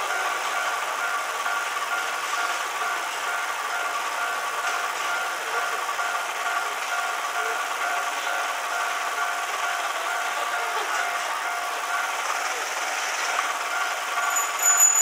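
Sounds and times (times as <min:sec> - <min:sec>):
street noise: 0:00.0 - 0:15.0
level crossing electronic bell ringing: 0:00.1 - 0:12.2, 0:13.6 - 0:15.0.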